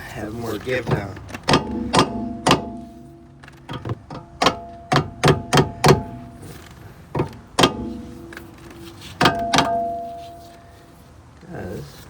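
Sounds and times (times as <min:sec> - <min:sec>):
hammer knocking on metal: 0:00.8 - 0:10.6.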